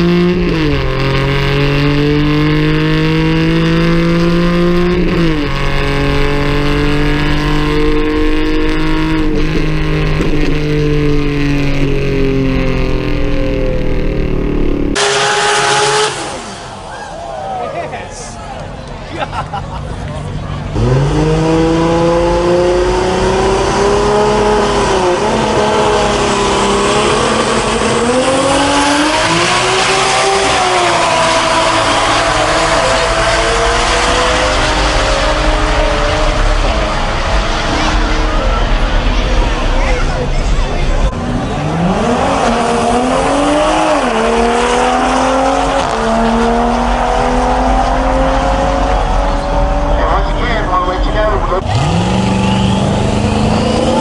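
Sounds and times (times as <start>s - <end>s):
racing car engine accelerating: 0.0s - 17.0s, 20.4s - 54.0s.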